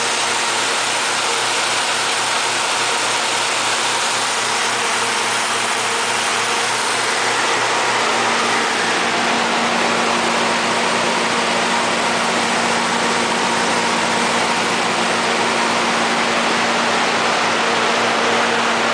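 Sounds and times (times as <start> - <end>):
generator engine humming: 0.0 - 18.9.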